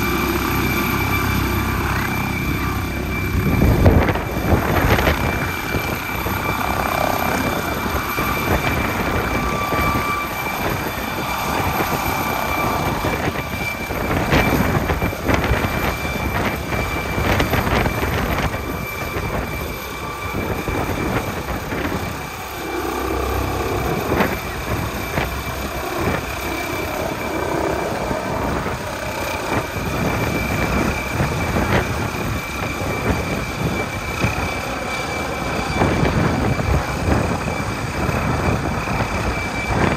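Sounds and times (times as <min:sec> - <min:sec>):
helicopter turbine whine: 0:00.0 - 0:39.9
rotor and engine rush: 0:00.0 - 0:39.9.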